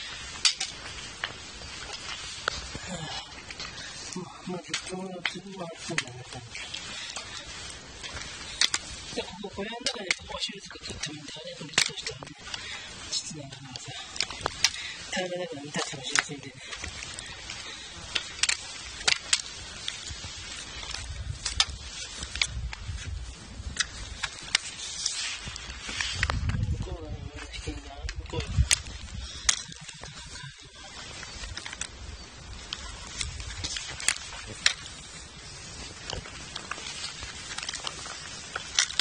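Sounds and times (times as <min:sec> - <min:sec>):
sharp clicks and crackles: 0:00.0 - 0:26.9, 0:27.5 - 0:39.0
fabric rustling on microphone: 0:00.0 - 0:39.0.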